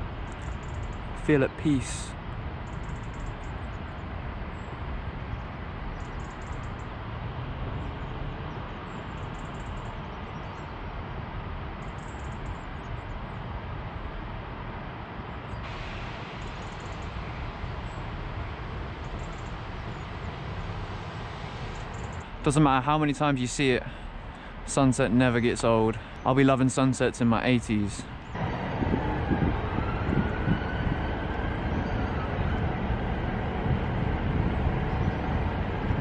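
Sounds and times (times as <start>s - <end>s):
distant traffic rumble and hiss: 0.0s - 36.0s.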